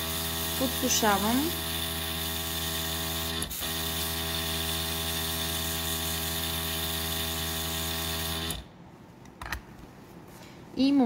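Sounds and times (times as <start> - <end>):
compressor electric hum: 0.0 - 11.0.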